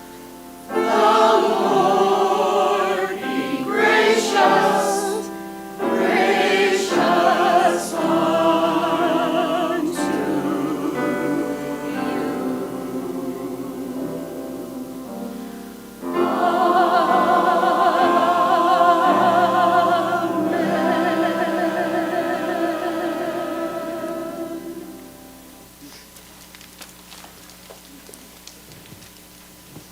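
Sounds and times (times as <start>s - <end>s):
choir singing held chords: 0.0s - 25.8s.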